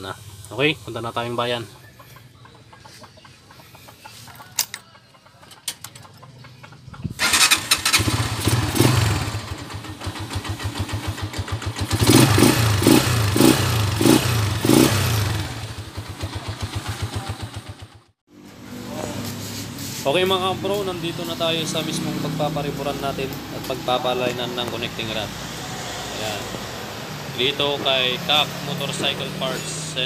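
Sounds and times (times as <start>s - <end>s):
motorcycle engine idling and revving: 4.5s - 30.0s.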